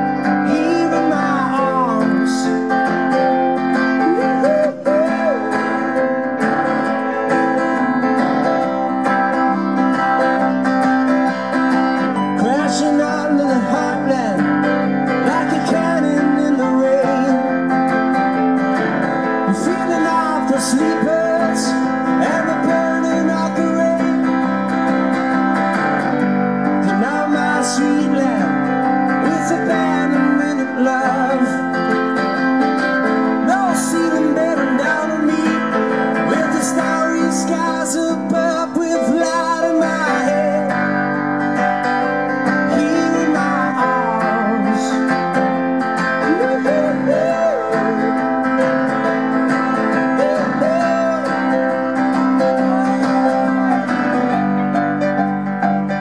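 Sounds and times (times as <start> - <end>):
man singing: 0.0 - 55.4
acoustic guitar strumming: 0.0 - 56.0
stage piano: 0.0 - 56.0.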